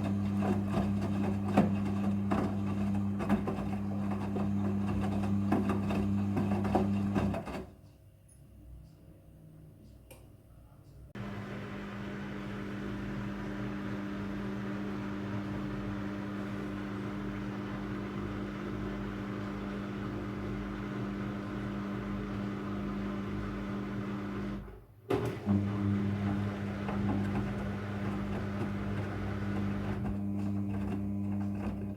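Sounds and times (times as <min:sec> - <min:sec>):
washing machine motor hum: 0:00.0 - 0:07.7, 0:11.2 - 0:31.9.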